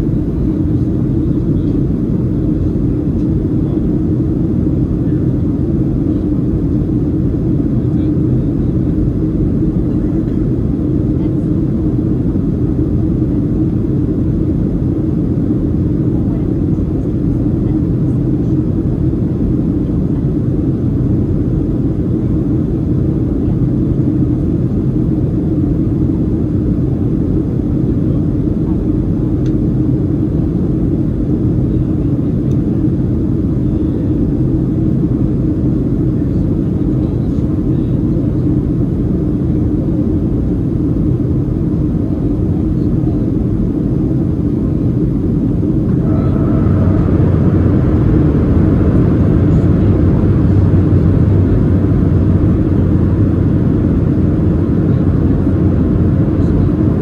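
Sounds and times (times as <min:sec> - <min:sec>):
faint steady whine: 0:00.0 - 0:57.0
jet engine and airflow roar: 0:00.0 - 0:57.0.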